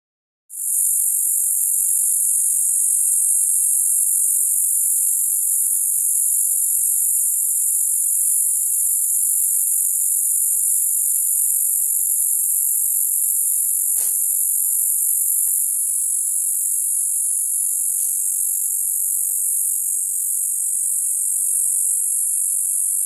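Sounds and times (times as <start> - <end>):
cicada buzzing: 0.5 - 23.0.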